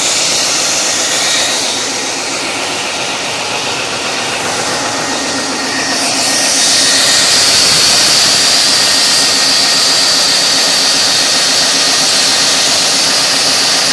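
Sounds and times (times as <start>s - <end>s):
loud diesel engine running: 0.0s - 13.9s.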